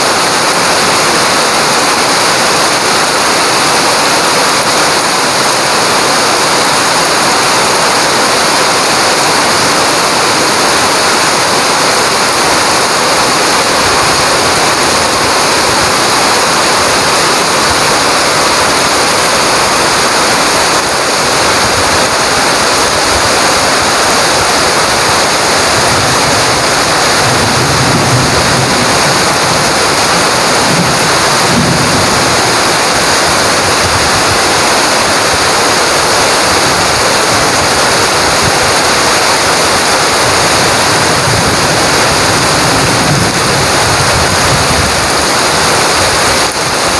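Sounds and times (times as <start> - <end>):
heavy rain on foliage: 0.0 - 46.9.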